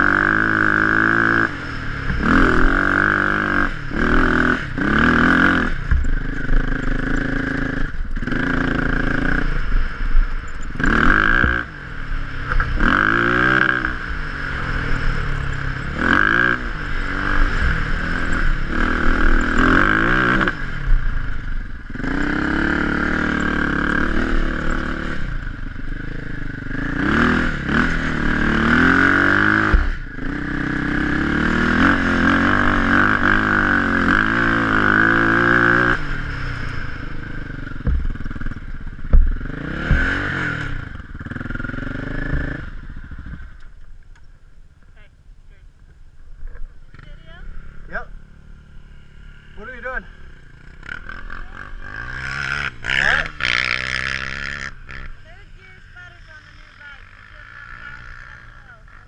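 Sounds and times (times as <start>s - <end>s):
quad engine revving: 0.0s - 43.7s, 46.9s - 59.0s.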